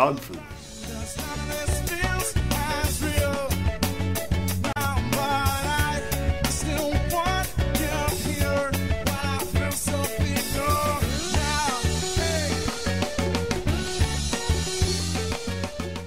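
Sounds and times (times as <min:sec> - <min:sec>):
band music: 0:00.0 - 0:16.0
drum kit steady beat: 0:00.0 - 0:16.0
gliding lead melody: 0:00.5 - 0:16.0.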